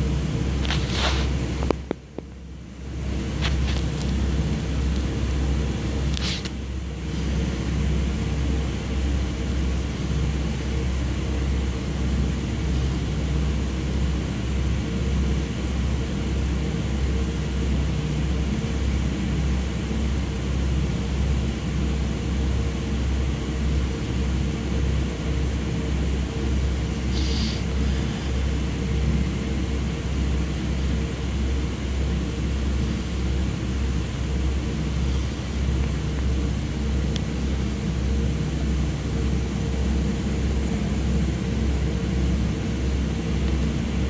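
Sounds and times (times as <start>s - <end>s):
pulsing rotorcraft rumble: 0.0s - 44.0s.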